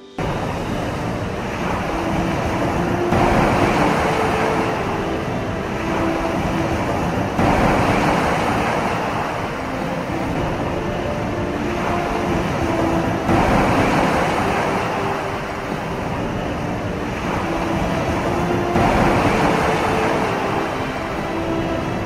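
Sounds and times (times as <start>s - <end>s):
loud rushing noise: 0.0s - 22.0s.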